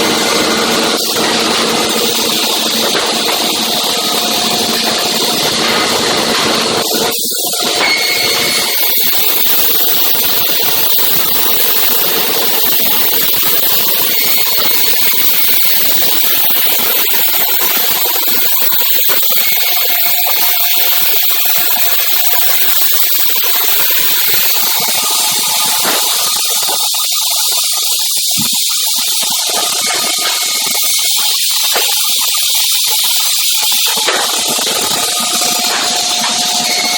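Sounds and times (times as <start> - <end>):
loud hissing machine noise: 0.0 - 36.9.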